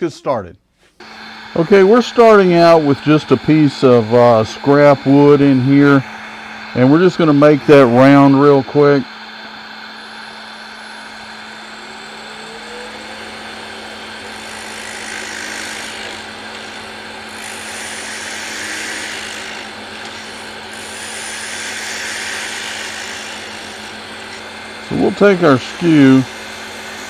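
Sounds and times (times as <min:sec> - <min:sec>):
lathe tool cutting wood: 0:01.0 - 0:27.0
wood lathe motor humming: 0:01.0 - 0:27.0.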